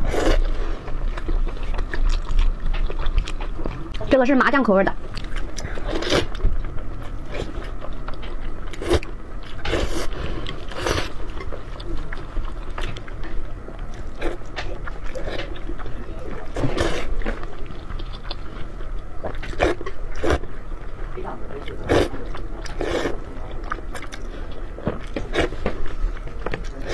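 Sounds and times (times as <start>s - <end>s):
slurping and chewing noodles: 0.0s - 4.1s, 5.0s - 26.9s.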